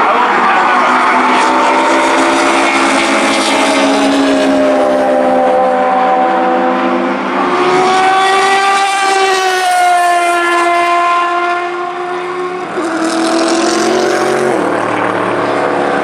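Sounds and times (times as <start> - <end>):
race car engines passing: 0.0 - 16.0
engine accelerating: 0.1 - 16.0.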